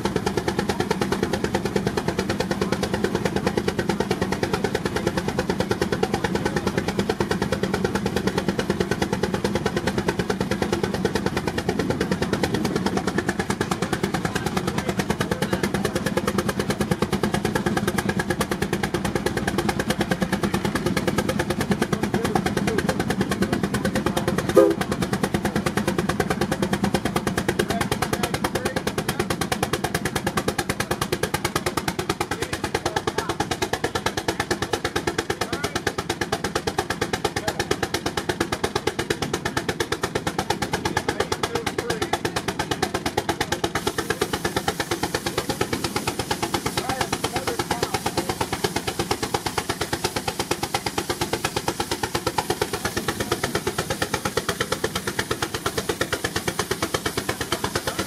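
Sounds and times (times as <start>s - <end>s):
steam engine exhaust beating: 0.0s - 58.0s.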